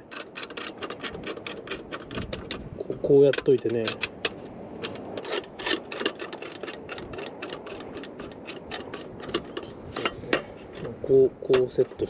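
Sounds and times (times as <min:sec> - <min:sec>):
small metal clicks and scrapes: 0:00.0 - 0:12.0.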